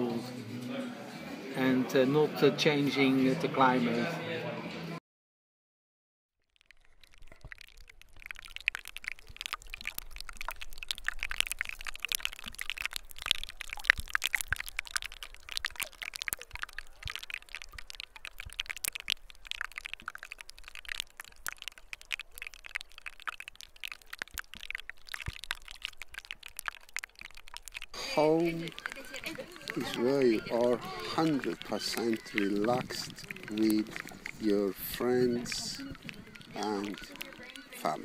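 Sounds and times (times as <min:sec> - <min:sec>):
crackling and popping: 0:06.4 - 0:38.0.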